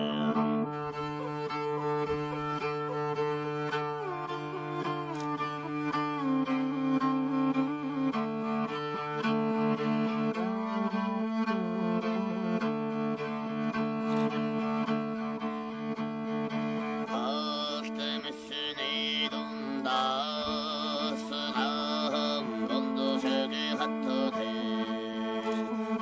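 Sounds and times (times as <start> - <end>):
bowed strings music: 0.0 - 26.0.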